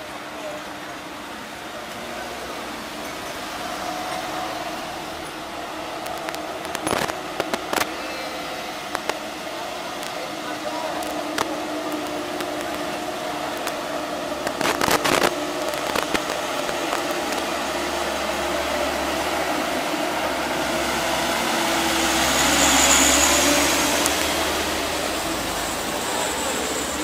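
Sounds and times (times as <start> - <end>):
truck diesel engine passing: 0.0 - 27.0.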